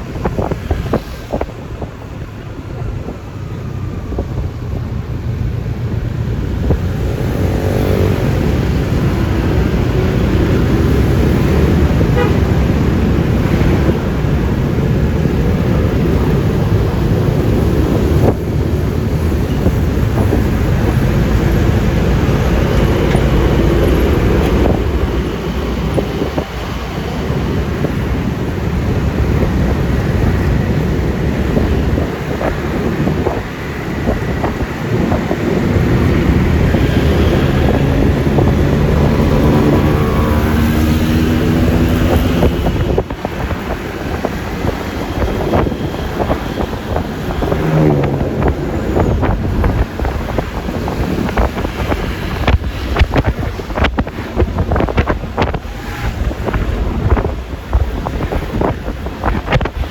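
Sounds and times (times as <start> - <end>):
passing vehicles: 0.0 - 59.9
wind and tyre rush: 0.0 - 59.9.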